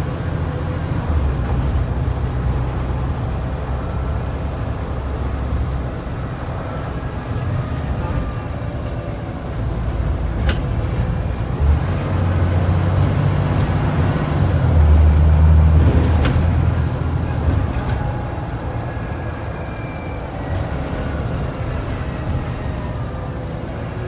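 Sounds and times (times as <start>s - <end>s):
bus diesel engine accelerating: 0.0s - 24.0s.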